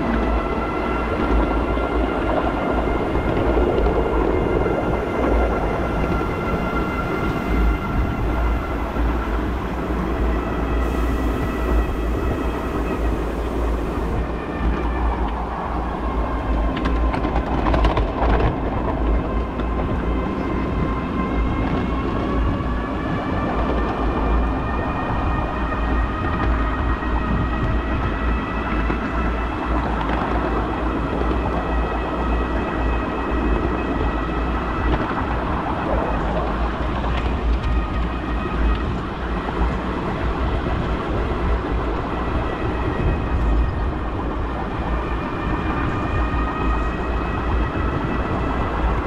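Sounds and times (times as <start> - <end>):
wheels clicking over rail joints: 0.0 - 46.2
miniature train rumbling and whining: 0.0 - 49.0.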